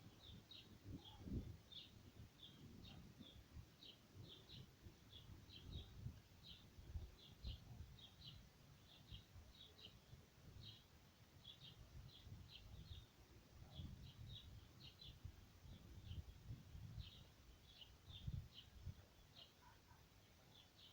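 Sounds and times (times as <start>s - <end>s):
faint bird chirping: 0.0s - 20.9s.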